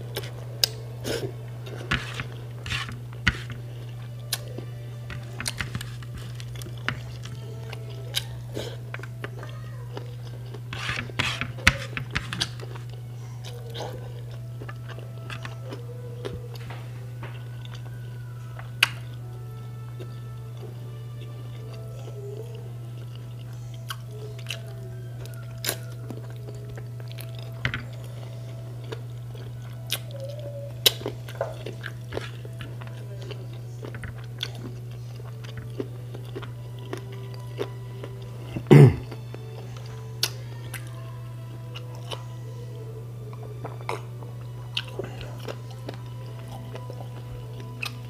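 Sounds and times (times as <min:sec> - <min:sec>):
man chewing chicken: 0:00.0 - 0:42.4, 0:43.3 - 0:48.0
steady low hum: 0:00.0 - 0:48.0.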